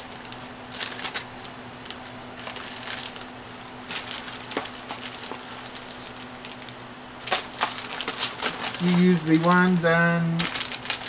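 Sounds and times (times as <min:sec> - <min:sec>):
faint hum: 0:00.0 - 0:11.0
plastic bags crinkling: 0:00.0 - 0:11.0.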